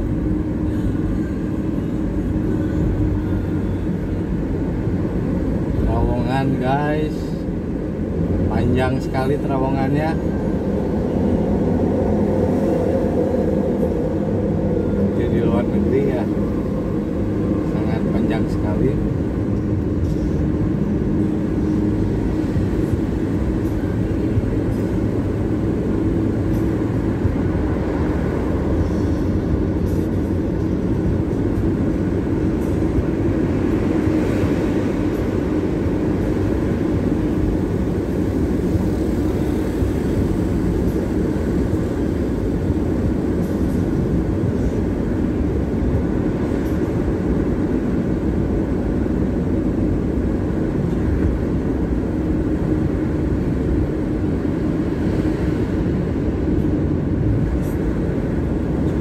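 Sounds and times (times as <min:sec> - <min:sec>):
car driving through tunnel: 0:00.0 - 0:59.0.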